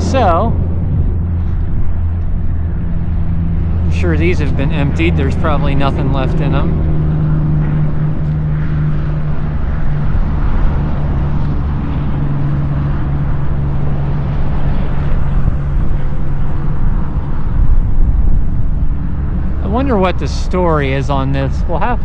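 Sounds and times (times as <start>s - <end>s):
highway traffic drone: 0.0s - 22.0s
truck engine hum: 0.0s - 22.0s.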